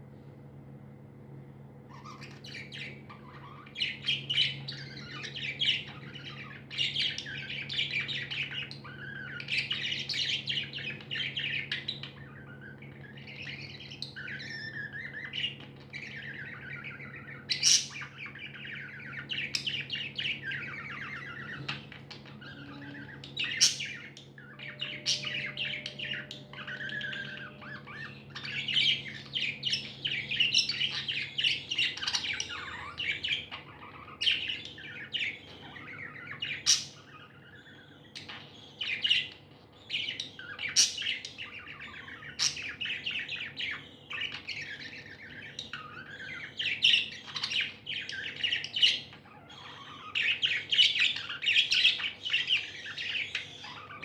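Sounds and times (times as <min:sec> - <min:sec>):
budgerigars chirping and squawking: 0:01.9 - 0:54.0.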